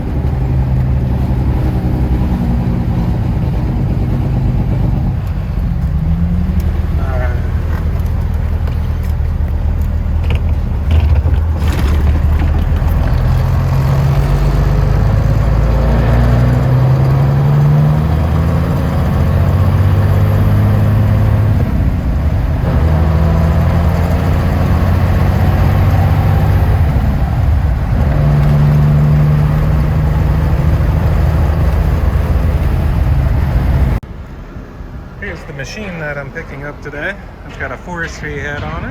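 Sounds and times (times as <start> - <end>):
diesel truck engine revving: 0.0 - 38.9.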